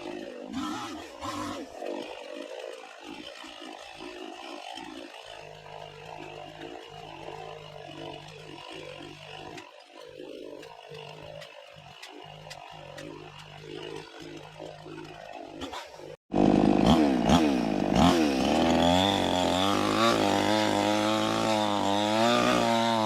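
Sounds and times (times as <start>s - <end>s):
chainsaw cutting: 0.0s - 23.0s.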